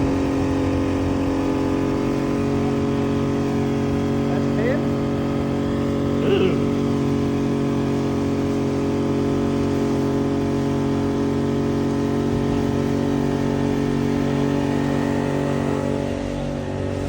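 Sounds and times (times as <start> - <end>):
outboard engine struggling: 0.0 - 17.0.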